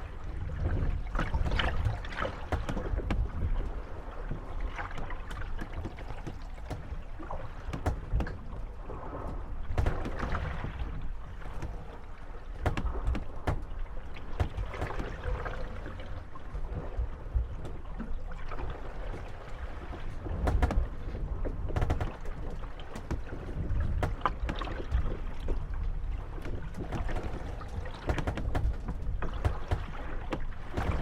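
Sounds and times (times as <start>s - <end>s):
boat hulls knocking and creaking: 0.0s - 31.0s
water sloshing: 0.0s - 31.0s.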